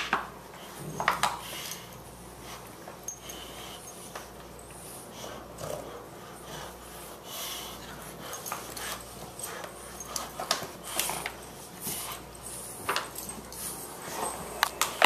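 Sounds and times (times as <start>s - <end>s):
dogs breathing hard: 0.4s - 15.0s.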